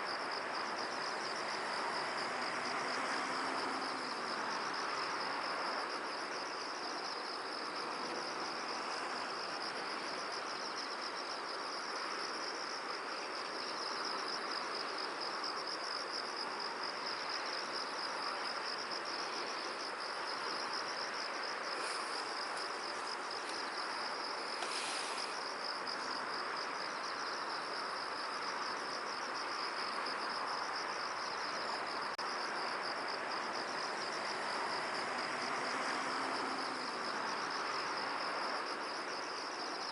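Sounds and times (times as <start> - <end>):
insects chirring: 0.0 - 39.9
wind through field: 0.0 - 39.9.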